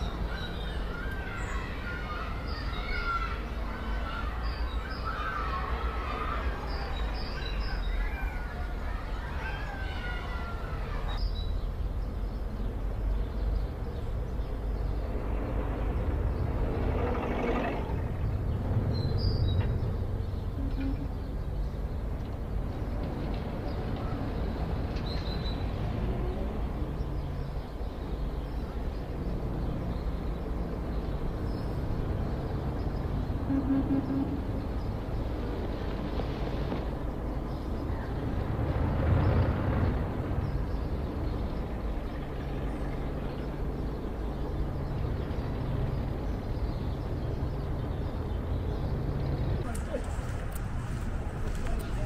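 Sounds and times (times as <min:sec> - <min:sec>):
low rumble of traffic: 0:00.0 - 0:52.0.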